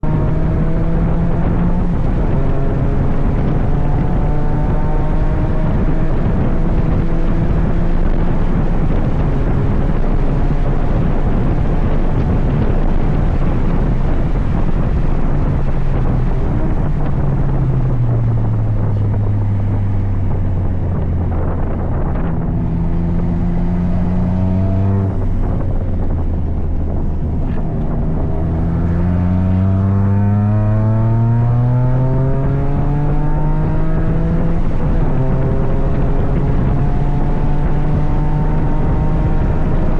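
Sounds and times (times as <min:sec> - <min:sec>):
racing car engine revving: 0:00.0 - 0:39.9
wind noise: 0:00.0 - 0:39.9.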